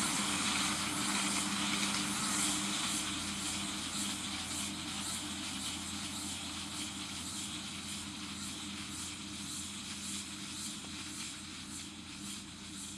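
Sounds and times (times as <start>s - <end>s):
tractor and baler machinery drone: 0.0s - 12.9s.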